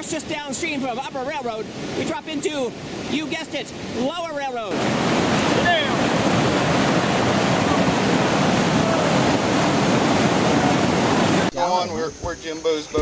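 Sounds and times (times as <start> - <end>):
whitewater rushing: 0.0 - 11.7.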